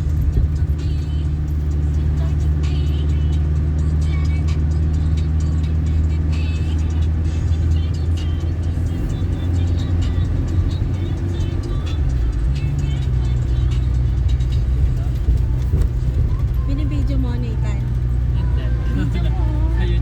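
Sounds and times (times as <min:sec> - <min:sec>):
car engine and tyres drone: 0:00.0 - 0:20.0
music playing: 0:00.0 - 0:20.0.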